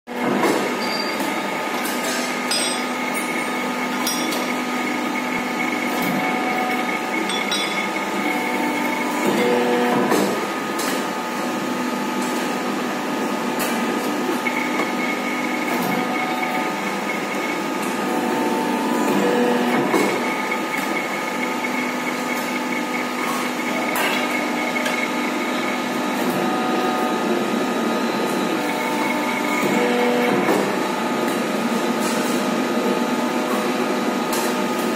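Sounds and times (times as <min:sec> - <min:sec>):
hydraulic pump whining hum: 0:00.1 - 0:34.9.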